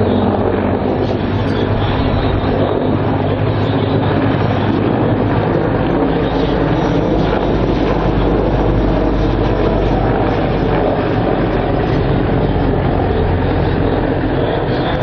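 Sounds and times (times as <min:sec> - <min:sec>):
helicopter rotor and engines: 0:00.0 - 0:15.0.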